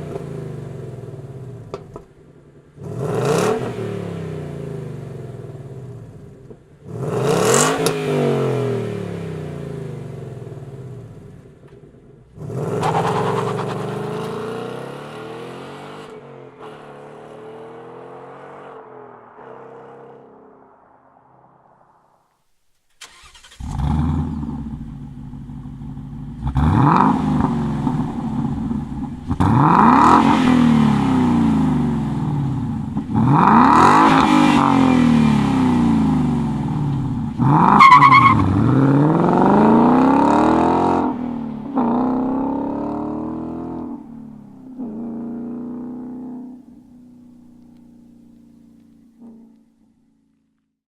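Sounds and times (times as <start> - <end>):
car engine starting and revving: 2.8 - 11.6, 12.2 - 22.1, 22.9 - 49.6.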